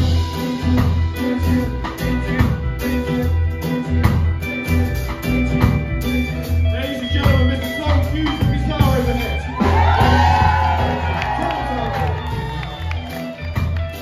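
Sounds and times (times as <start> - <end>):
live band playing: 0.0 - 14.0
pulsing bass line: 0.0 - 14.0.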